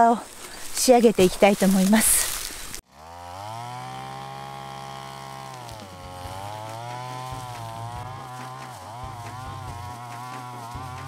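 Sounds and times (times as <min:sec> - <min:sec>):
brush cutter engine at high throttle: 0:00.5 - 0:11.0.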